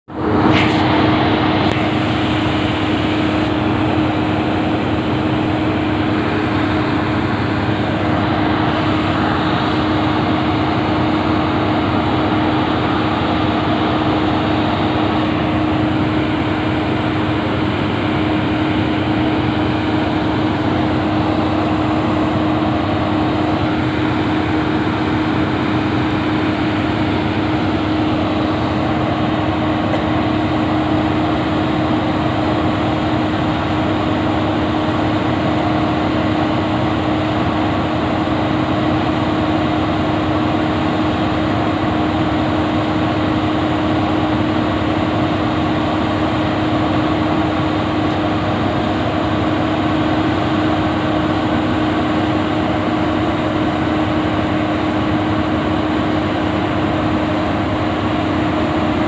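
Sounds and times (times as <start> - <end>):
construction machinery drone: 0.0 - 59.0.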